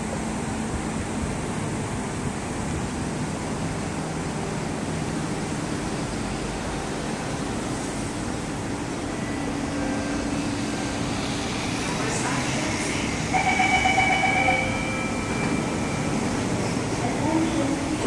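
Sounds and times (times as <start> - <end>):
metro train rushing: 0.0 - 18.0.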